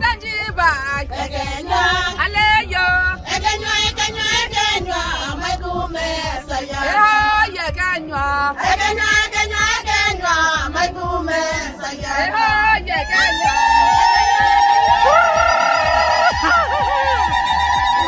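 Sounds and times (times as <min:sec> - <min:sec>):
women singing unaccompanied: 0:00.0 - 0:14.9.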